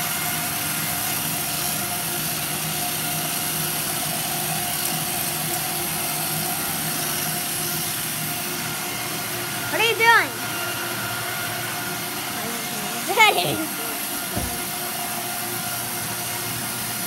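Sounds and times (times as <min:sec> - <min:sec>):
treadmill motor whirring: 0:00.0 - 0:17.0.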